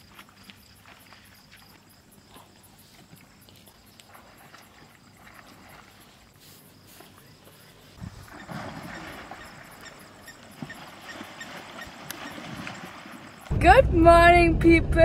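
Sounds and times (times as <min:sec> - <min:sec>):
insects chirping: 0:00.0 - 0:13.6.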